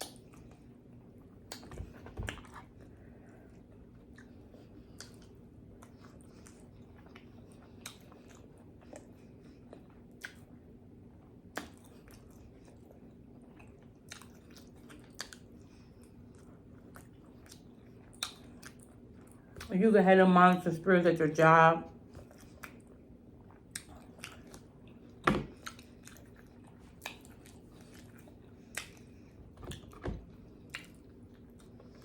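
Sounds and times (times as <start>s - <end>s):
person chewing food: 0.0s - 19.7s, 22.0s - 32.0s
faint steady hum: 0.0s - 32.0s.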